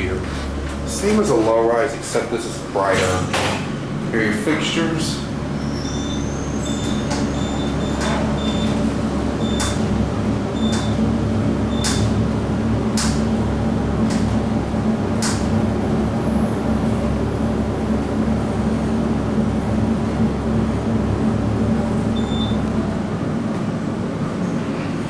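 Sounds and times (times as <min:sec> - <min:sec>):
elevator low hum: 0:00.0 - 0:25.0.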